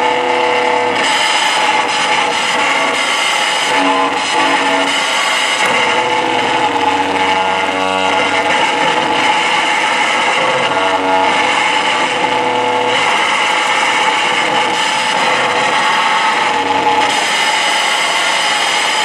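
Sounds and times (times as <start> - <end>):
harsh electronic noise: 0.0 - 19.0
held pitched tones: 0.0 - 19.0.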